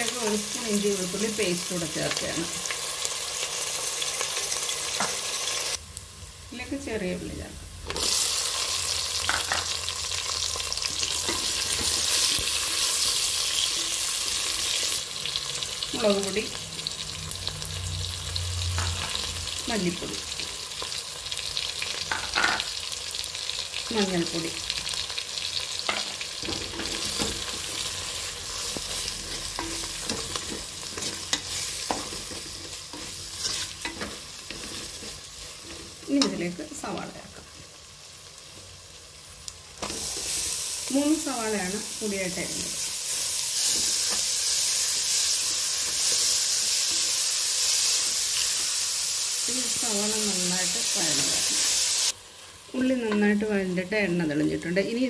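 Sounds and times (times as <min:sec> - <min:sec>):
onions sizzling in hot oil: 0:00.0 - 0:55.0.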